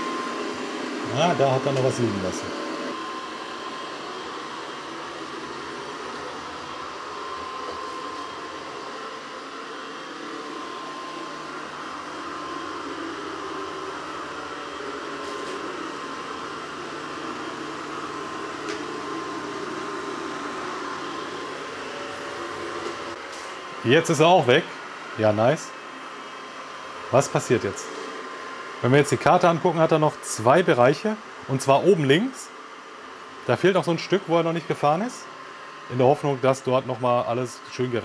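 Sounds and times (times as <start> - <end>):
robot vacuum fan whirring: 0.0 - 38.0.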